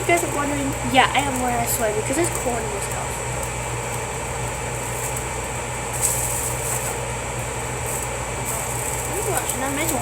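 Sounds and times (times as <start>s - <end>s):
low fan hum: 0.0s - 10.0s
sausages sizzling in a frying pan: 0.0s - 10.0s.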